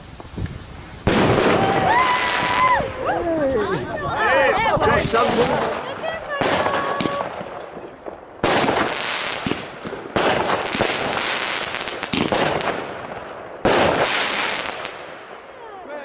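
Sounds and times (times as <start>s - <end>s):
fireworks bursting and crackling: 0.0s - 15.7s.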